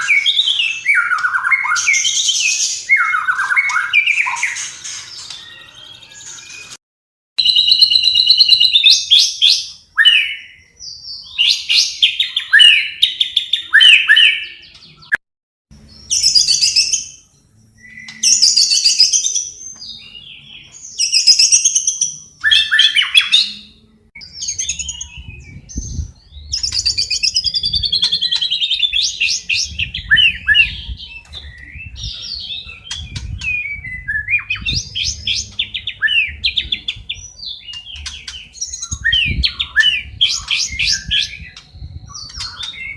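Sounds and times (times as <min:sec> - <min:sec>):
songbird whistles and chirps: 0:00.0 - 0:06.8, 0:07.4 - 0:15.2, 0:15.8 - 0:42.9.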